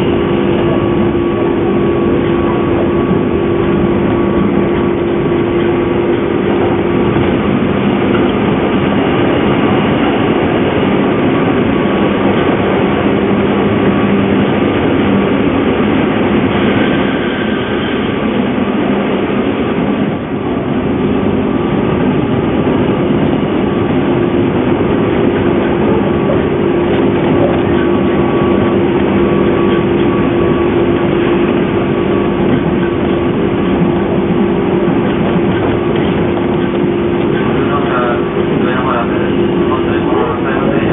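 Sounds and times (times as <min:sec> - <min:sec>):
electric train motor whine: 0:00.0 - 0:40.9
wheel and rail noise: 0:00.0 - 0:40.9.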